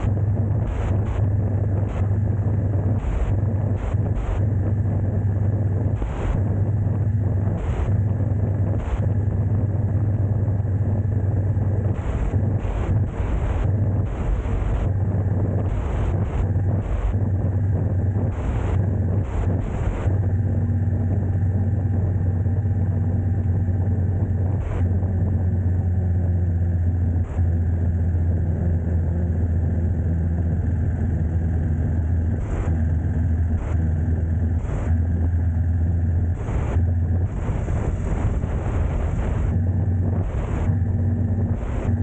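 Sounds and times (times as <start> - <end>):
vehicle engine hum: 0.0 - 42.0.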